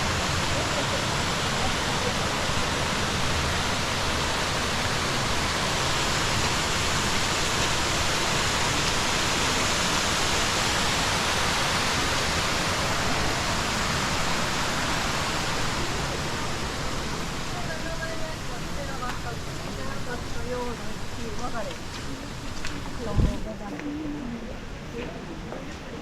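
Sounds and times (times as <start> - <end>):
rushing mountain stream: 0.0 - 23.8.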